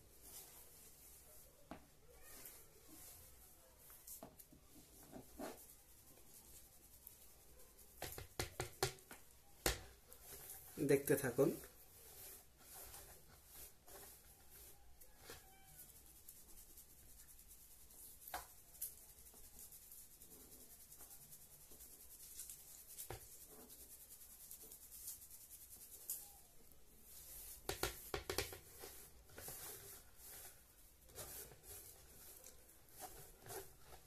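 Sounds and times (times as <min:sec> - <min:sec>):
powder rubbing on mesh sieve: 0:04.8 - 0:34.0.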